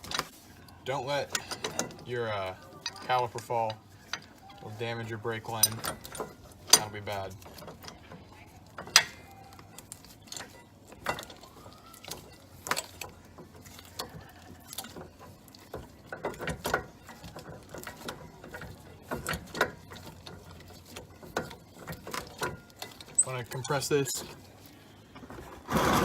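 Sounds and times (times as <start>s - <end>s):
metallic clicks and clanks of tools: 0.0s - 25.4s.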